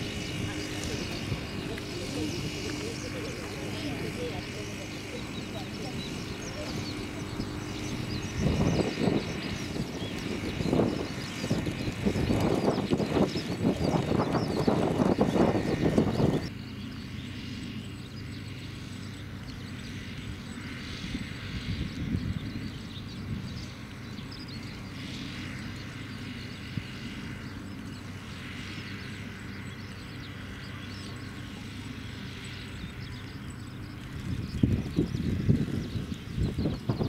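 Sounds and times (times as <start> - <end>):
distant engine hum: 0.0 - 37.0.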